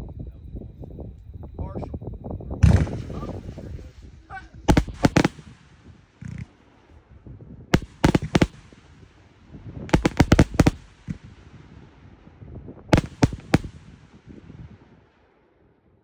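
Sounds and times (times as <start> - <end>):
fireworks bangs: 2.4 - 15.4.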